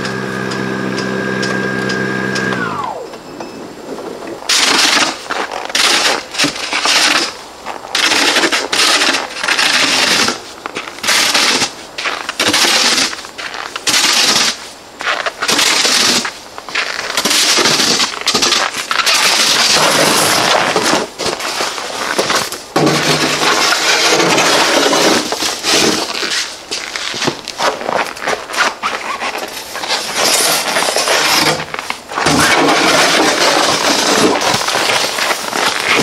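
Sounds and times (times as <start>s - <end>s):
snow shovel scraping: 4.5s - 36.0s.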